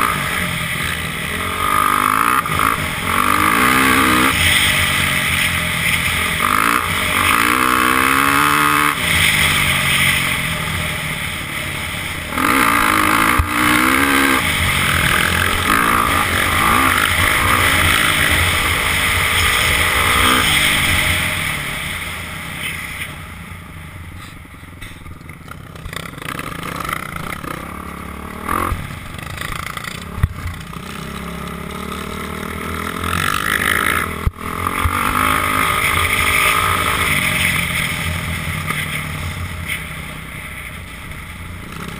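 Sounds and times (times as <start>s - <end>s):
dirt bike engine revving: 0.0s - 23.4s, 25.5s - 41.9s.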